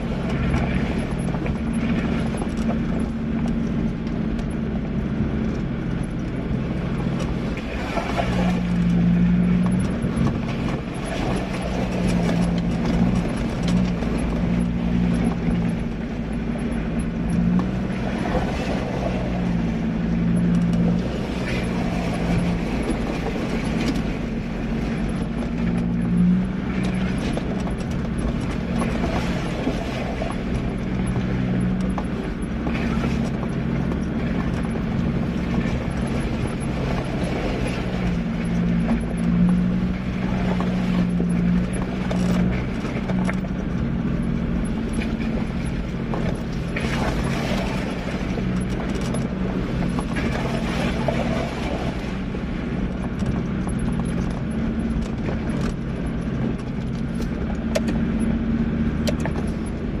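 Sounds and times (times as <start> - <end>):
bodywork rattling and clicking: 0.0 - 60.0
engine running at low revs: 0.0 - 60.0.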